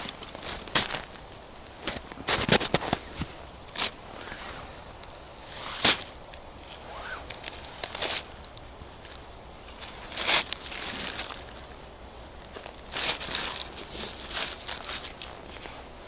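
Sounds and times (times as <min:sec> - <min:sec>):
campfire crackling and popping: 0:00.0 - 0:04.1, 0:04.9 - 0:15.7.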